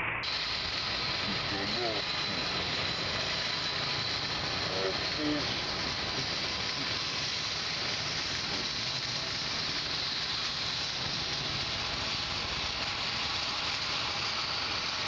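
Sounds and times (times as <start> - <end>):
city traffic hiss: 0.0 - 15.0.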